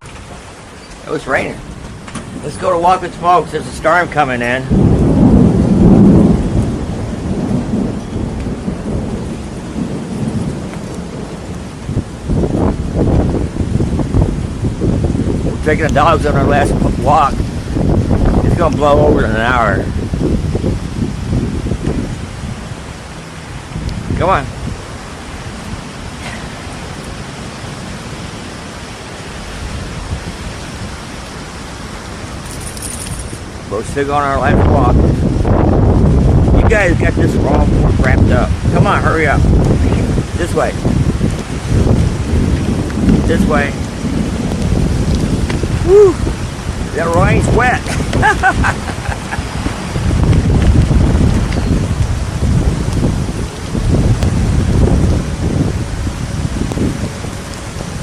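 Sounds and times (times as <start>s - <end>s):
thunder rumbling: 0.0s - 32.4s, 33.4s - 58.0s
steady rain: 0.0s - 58.0s.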